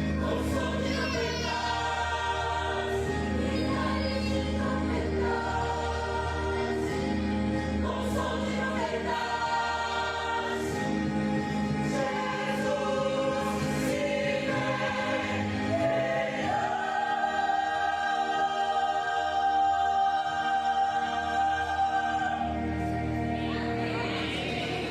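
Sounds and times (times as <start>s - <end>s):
choir singing: 0.0s - 24.9s.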